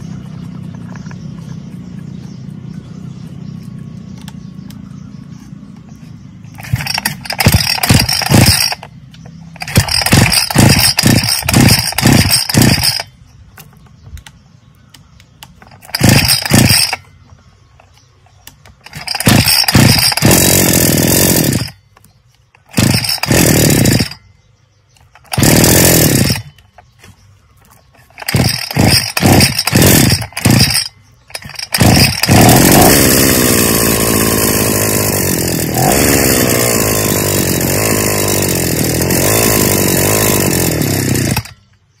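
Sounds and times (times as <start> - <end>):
brush-cutter engine starting and running: 5.7 - 13.9, 15.5 - 24.3, 24.9 - 41.8.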